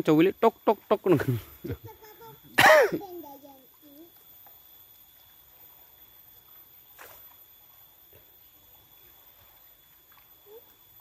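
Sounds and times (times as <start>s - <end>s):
faint stream flowing: 0.0s - 11.0s.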